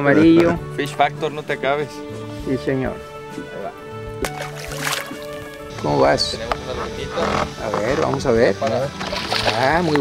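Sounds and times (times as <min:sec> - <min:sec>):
music with held tones: 0:00.0 - 0:10.0.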